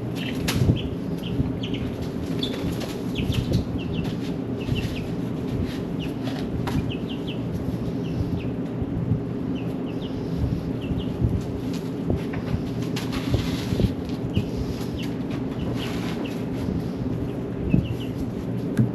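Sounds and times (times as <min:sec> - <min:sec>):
chicks peeping: 0:00.0 - 0:18.8.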